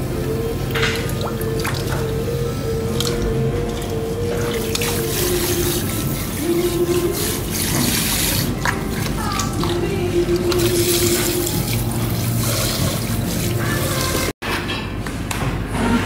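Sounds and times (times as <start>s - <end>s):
water splashing in basin: 0.0s - 14.4s.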